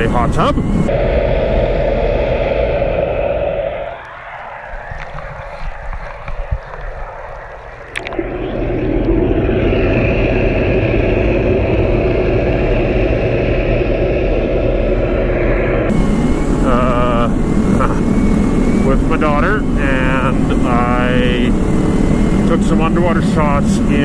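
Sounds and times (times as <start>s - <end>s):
motorcycle engine drone: 0.0s - 24.0s
steady repetitive hum: 0.0s - 24.0s
wind noise: 0.0s - 24.0s.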